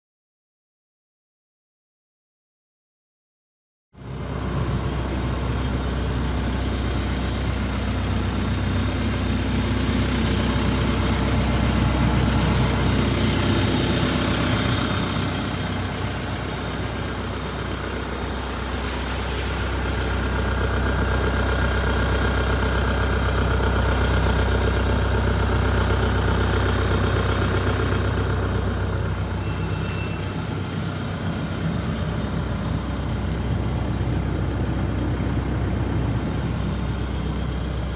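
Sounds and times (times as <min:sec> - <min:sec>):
diesel engine running: 0:04.0 - 0:37.9.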